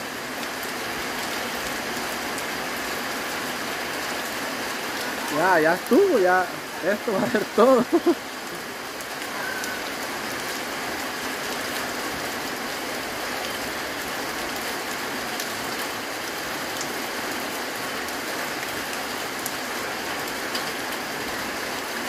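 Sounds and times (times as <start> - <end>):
light rain hiss: 0.0 - 22.0
water dripping off roof: 0.1 - 22.0.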